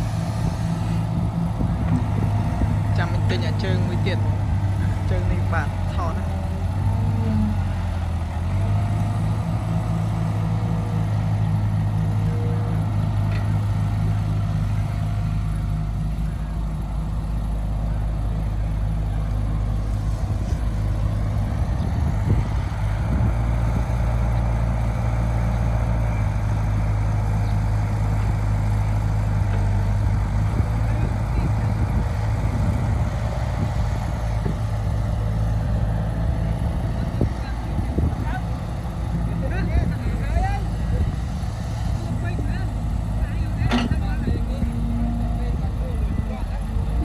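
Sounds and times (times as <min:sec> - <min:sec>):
heavy diesel engine droning: 0:00.0 - 0:47.0.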